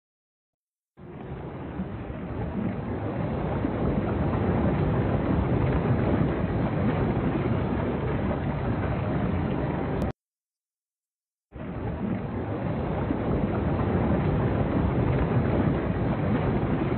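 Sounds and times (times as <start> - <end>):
sea water rushing: 1.0 - 10.1, 11.5 - 16.9
wind on microphone: 1.0 - 10.1, 11.5 - 16.9.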